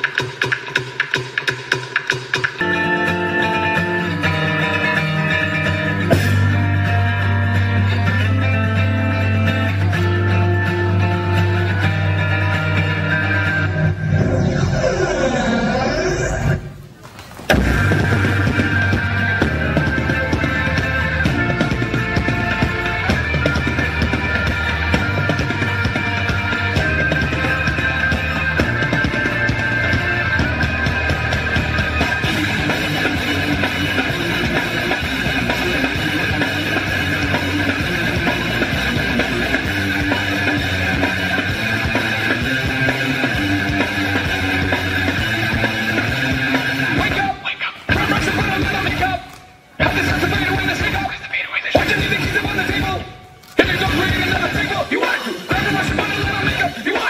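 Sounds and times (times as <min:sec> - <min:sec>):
loud rock music: 0:02.6 - 0:16.8, 0:17.5 - 0:57.0.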